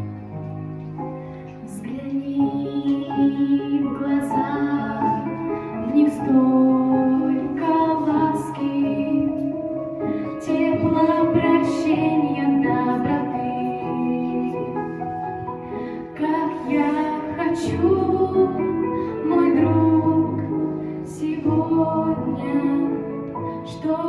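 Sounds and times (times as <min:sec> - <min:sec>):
musical accompaniment: 0:00.0 - 0:24.0
woman singing: 0:01.6 - 0:09.6, 0:10.3 - 0:15.1, 0:16.0 - 0:24.0.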